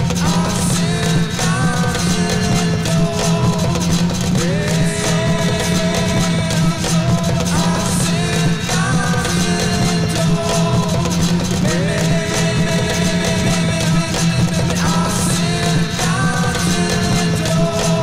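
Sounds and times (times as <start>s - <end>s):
looped singing and instruments: 0.0s - 18.0s.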